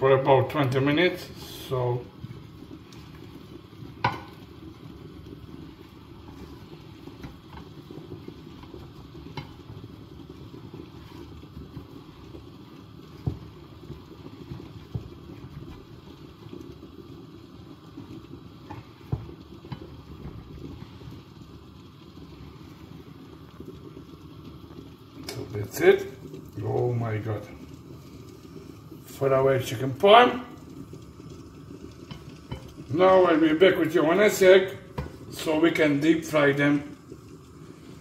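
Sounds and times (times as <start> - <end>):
chicken frying in hot oil: 0.0 - 38.0.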